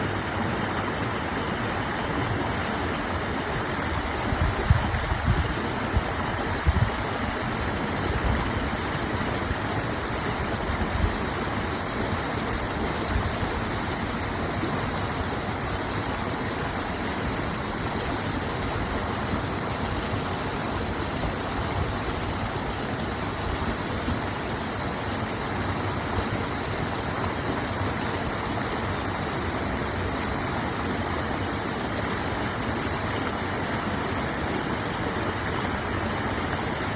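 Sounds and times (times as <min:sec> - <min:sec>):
water flowing steadily: 0:00.0 - 0:36.9.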